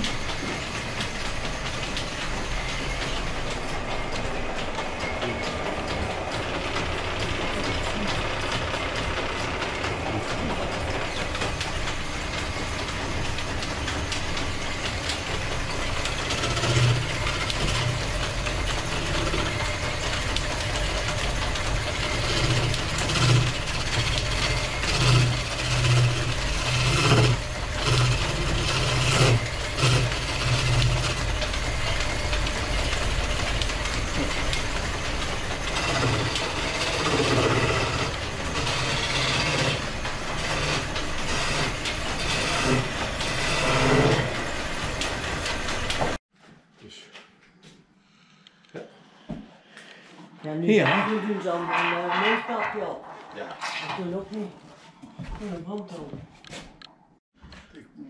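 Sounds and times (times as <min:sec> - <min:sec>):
machinery running: 0:00.0 - 0:46.2, 0:50.6 - 0:54.5.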